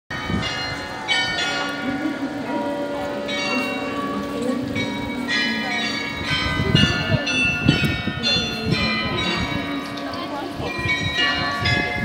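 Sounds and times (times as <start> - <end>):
bells playing a tune: 0.2 - 12.0.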